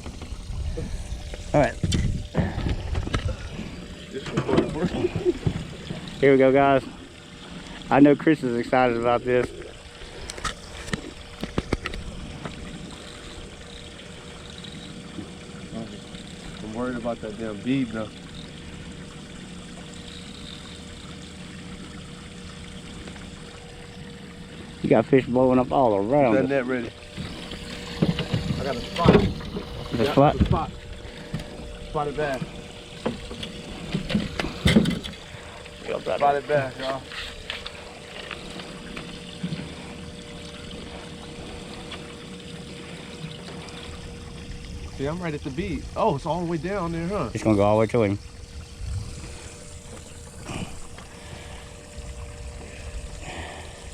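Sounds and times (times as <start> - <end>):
faint steady hum: 0.0 - 53.9
water along boat hull: 0.0 - 53.9.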